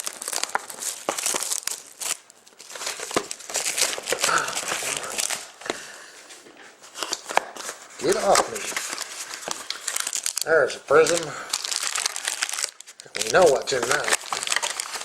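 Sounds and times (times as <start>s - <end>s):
plastic wrapping crinkling and tearing: 0.0s - 15.0s.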